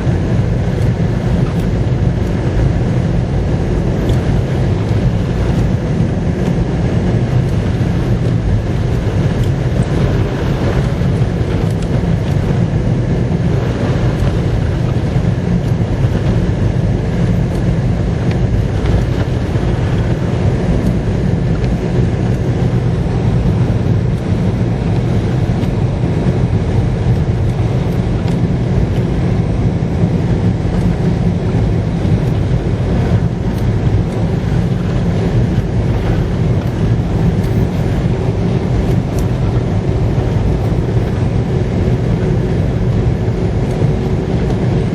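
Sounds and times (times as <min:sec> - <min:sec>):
storm wind on microphone: 0:00.0 - 0:44.9.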